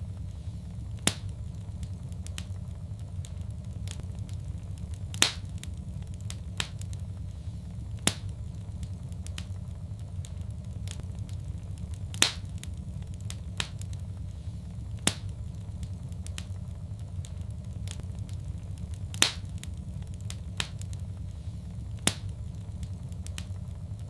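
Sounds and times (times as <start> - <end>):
low fire rumble: 0.0 - 24.0
wood fire crackling: 0.0 - 24.0.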